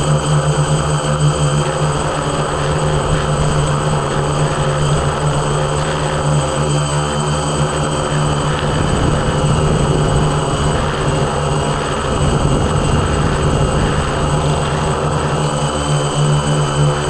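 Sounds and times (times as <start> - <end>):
drone motors buzzing: 0.0 - 17.0.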